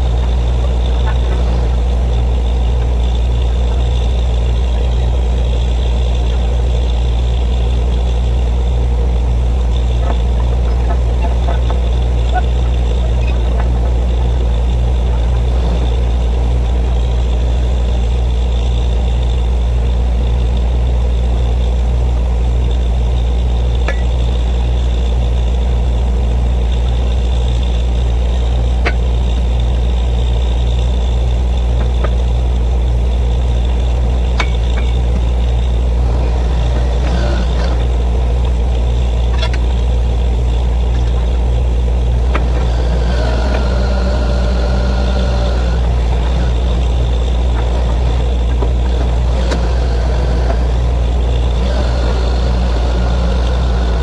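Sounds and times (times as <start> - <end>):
drilling machine engine drone: 0.0 - 54.0.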